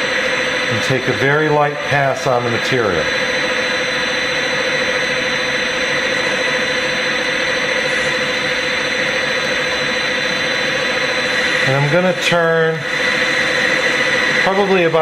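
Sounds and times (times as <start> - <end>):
lathe spindle whining: 0.0 - 15.0.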